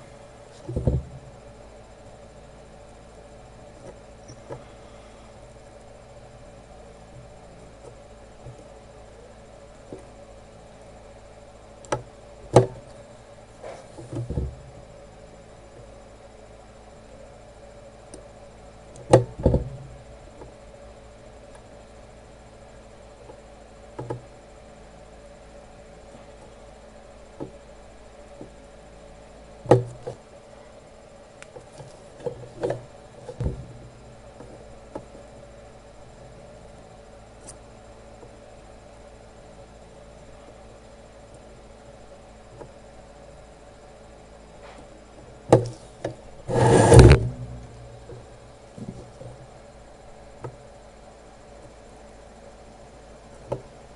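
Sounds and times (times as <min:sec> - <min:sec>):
faint background hum: 0:00.0 - 0:53.9.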